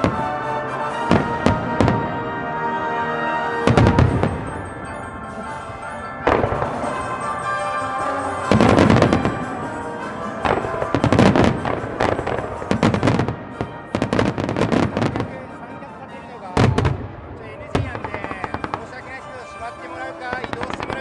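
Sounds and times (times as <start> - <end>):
fireworks bangs and crackle: 0.0 - 2.4, 3.5 - 21.0
music playing: 0.0 - 21.0.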